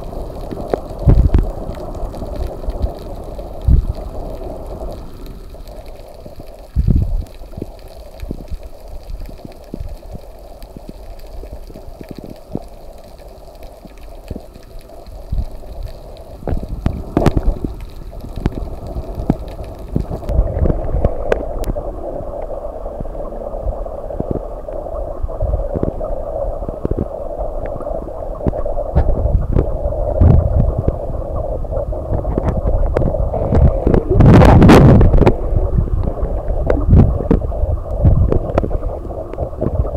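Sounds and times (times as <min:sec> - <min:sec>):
underwater water rushing: 0:00.0 - 0:39.9.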